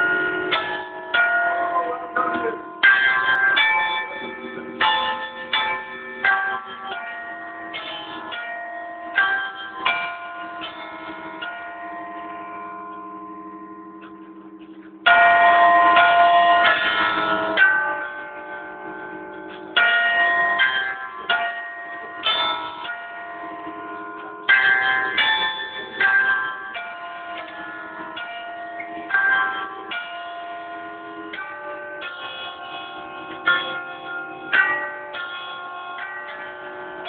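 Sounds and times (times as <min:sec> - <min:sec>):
church bells chiming a tune: 0:00.0 - 0:37.0.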